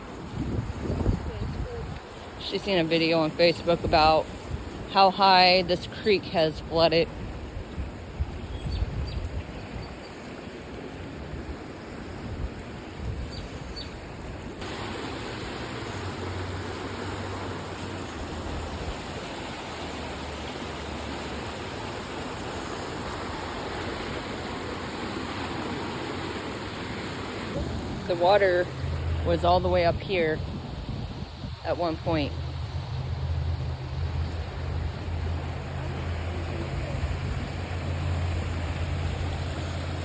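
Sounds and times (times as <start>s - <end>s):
creek water rushing: 0.0s - 40.0s.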